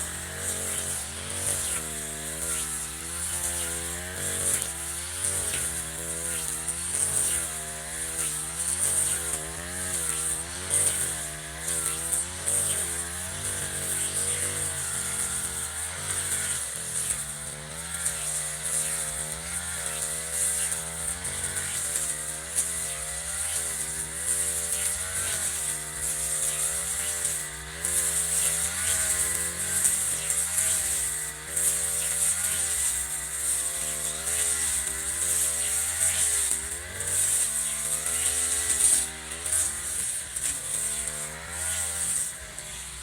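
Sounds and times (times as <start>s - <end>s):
brush cutter engine revving: 0.0s - 43.0s.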